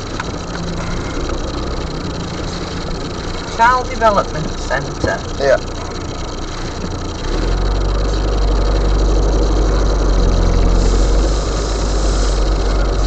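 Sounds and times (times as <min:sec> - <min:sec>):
car engine running low: 0:00.0 - 0:13.0
road noise: 0:00.0 - 0:13.0.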